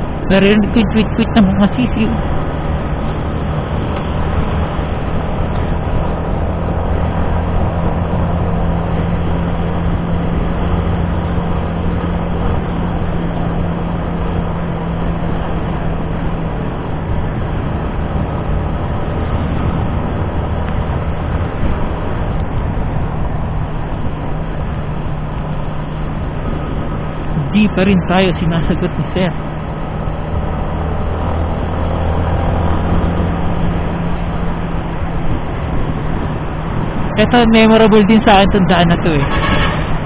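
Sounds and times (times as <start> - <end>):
motorcycle engine cruising: 0.0 - 40.0
wind and road noise: 0.0 - 40.0.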